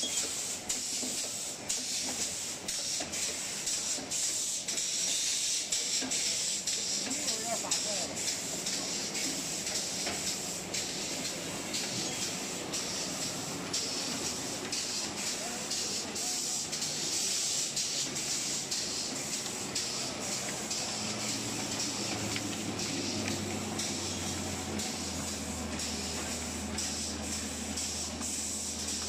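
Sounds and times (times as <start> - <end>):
mechanical machine noise: 0.0 - 29.0
pulsing air hiss: 0.0 - 29.0.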